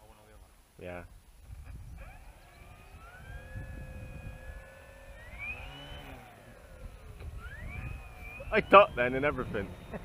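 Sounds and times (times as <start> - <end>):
model plane motor whining: 1.5 - 10.0.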